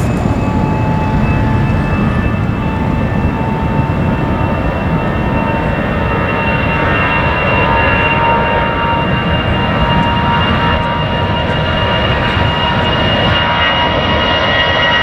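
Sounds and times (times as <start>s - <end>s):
high whine of two tones: 0.0s - 14.4s
jet engines running: 0.0s - 15.0s.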